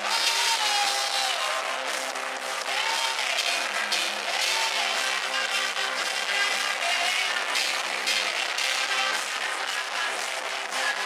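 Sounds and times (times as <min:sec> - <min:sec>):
crowd cheering and applauding: 0:00.0 - 0:11.0
woman singing into microphone: 0:00.0 - 0:11.0.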